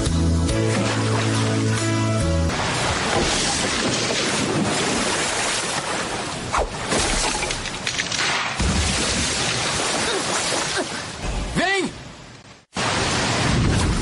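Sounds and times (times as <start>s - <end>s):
rushing water: 0.6s - 11.6s, 12.7s - 14.0s.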